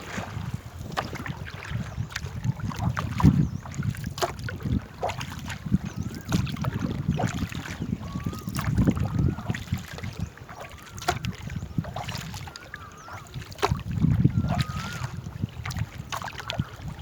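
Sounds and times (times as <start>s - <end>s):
paddle strokes in water: 0.0s - 17.0s
wind rumble on microphone: 0.0s - 17.0s.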